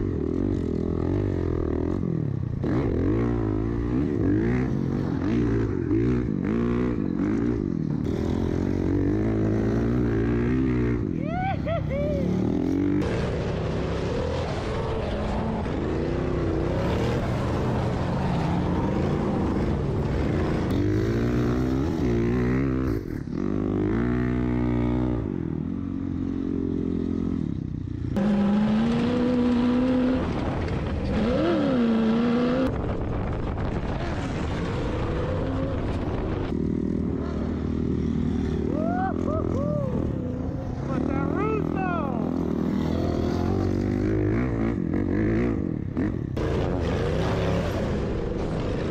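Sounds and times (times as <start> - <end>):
off-road vehicle engines revving: 0.0 - 48.9.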